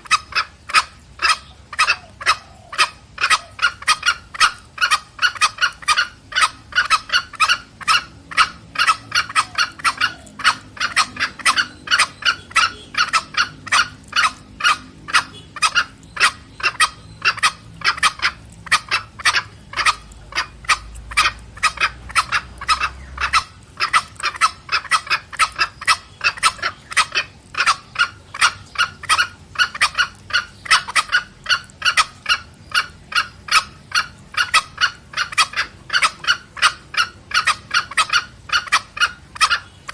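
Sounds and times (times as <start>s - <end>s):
junglefowl clucking calls: 0.0s - 39.9s.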